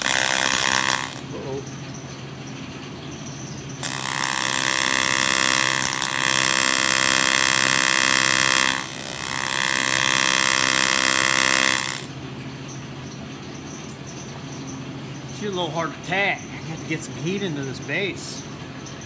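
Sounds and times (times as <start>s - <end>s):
welding arc buzzing: 0.0s - 1.6s, 3.7s - 17.6s.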